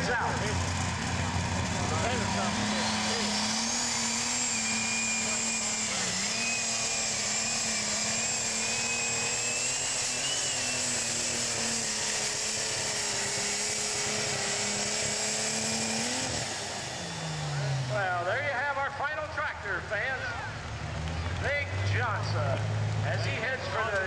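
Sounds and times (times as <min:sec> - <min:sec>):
diesel engine droning under load: 0:00.0 - 0:24.0
high turbo whine: 0:00.0 - 0:24.0.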